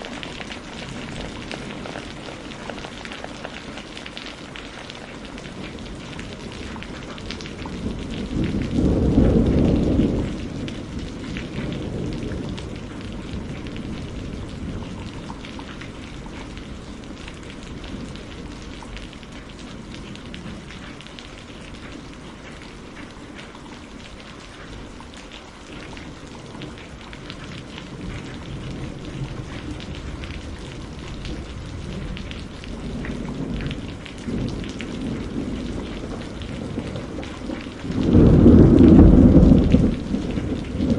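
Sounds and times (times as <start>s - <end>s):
thunder rumbling: 0.0s - 4.2s, 5.0s - 22.9s, 25.8s - 40.9s
heavy rain: 0.0s - 40.9s.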